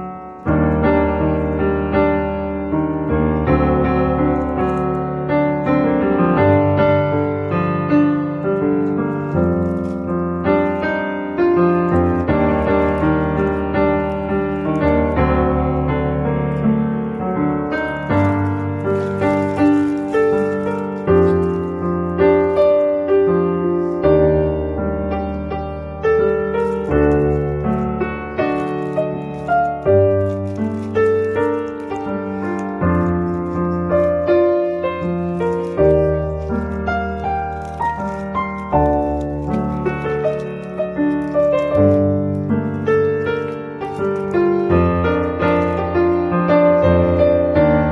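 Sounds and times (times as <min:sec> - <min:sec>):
piano music: 0:00.0 - 0:47.9.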